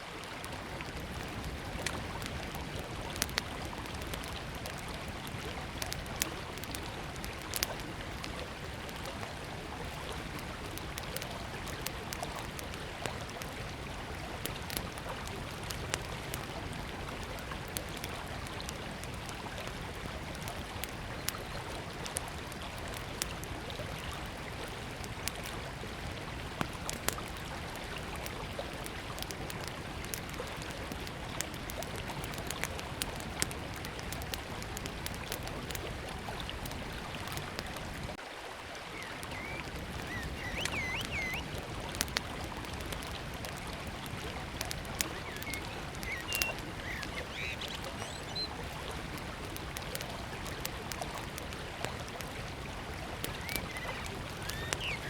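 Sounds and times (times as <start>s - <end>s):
river flowing: 0.0s - 55.0s
wood fire crackling and popping: 0.2s - 38.2s, 39.0s - 55.0s.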